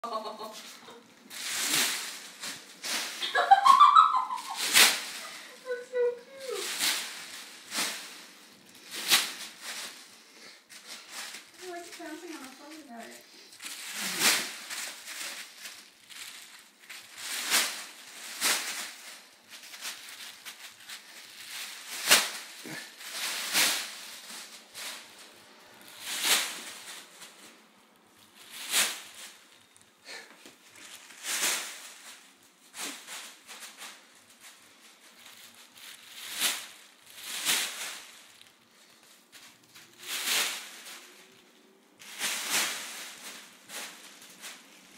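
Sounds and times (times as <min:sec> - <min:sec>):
plastic sheet crinkling and rustling: 0:00.1 - 0:44.9.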